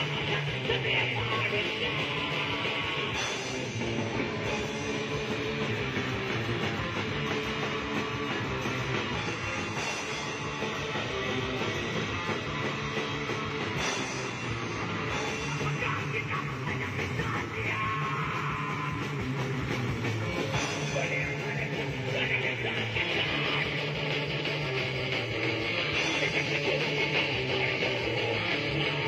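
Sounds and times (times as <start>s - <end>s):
punk band playing: 0.0s - 29.0s.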